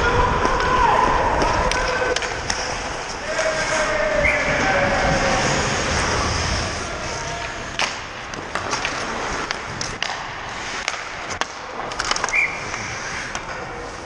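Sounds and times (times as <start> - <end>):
hockey sticks and puck clacking: 0.0 - 14.0
skates scraping on ice: 0.0 - 14.0.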